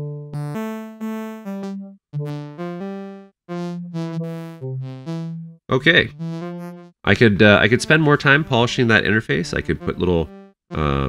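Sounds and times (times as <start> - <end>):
low synth notes sequence: 0.0 - 6.9, 7.8 - 11.0.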